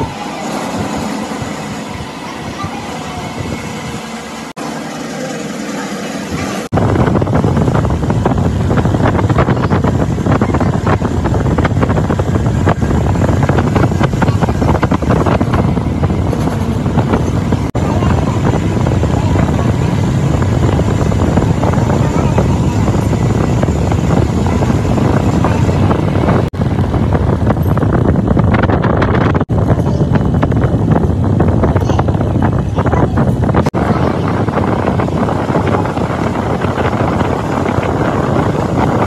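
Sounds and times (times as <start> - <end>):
loud crackly metalwork noise: 0.0 - 39.0.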